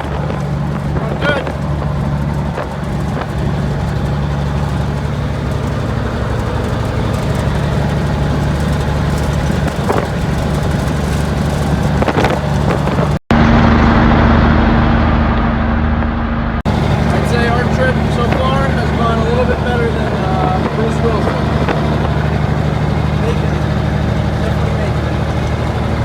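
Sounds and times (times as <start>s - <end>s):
diesel truck engine droning: 0.0s - 26.0s
road and wind noise: 0.0s - 26.0s.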